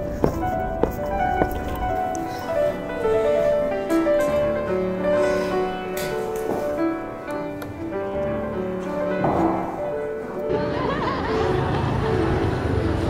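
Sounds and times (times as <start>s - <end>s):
melody of held notes: 0.0s - 13.0s.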